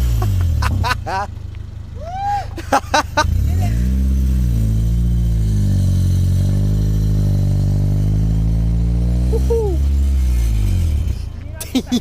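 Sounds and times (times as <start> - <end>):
car engine revving high: 0.0 - 1.3, 2.0 - 11.4.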